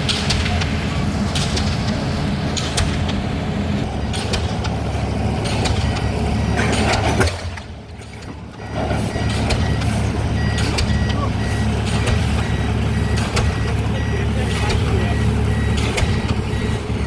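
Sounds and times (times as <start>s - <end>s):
pile hammer blows: 0.0s - 17.0s
rig engine running: 0.0s - 17.0s.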